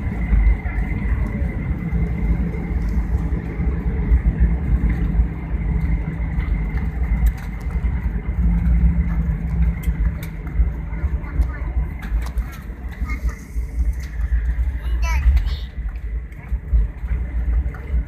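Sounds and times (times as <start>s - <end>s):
airliner engine drone: 0.0s - 18.0s.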